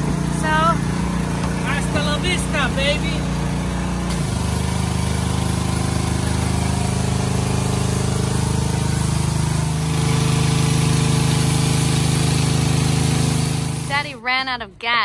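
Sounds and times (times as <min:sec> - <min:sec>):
pressure washer engine running: 0:00.0 - 0:14.2.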